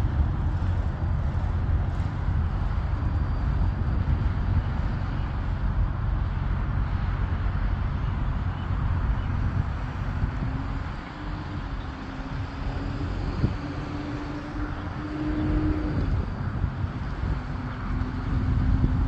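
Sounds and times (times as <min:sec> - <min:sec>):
distant jet engines rumbling: 0:00.0 - 0:19.0
wind buffeting microphone: 0:00.0 - 0:19.0.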